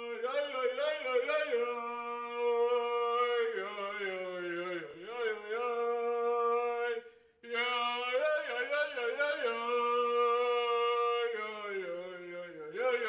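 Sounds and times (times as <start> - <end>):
man chanting a prayer: 0.0 - 13.0.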